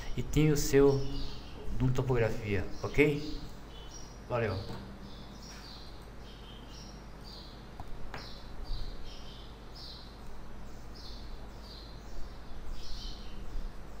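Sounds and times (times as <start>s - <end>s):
bird chirping: 0.0s - 14.0s
steady electrical hum: 0.0s - 14.0s.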